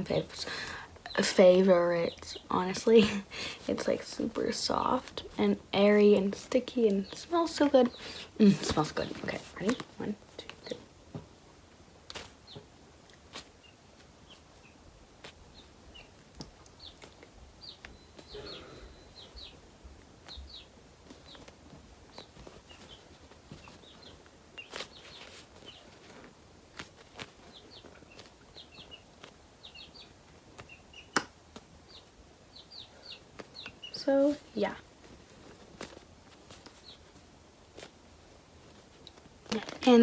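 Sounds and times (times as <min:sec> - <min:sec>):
small birds chirping: 0:00.0 - 0:11.0, 0:11.8 - 0:40.0.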